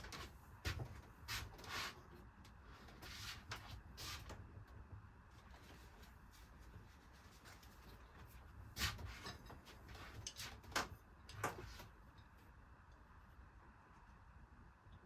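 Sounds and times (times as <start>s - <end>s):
faint low hum: 2.0s - 15.0s.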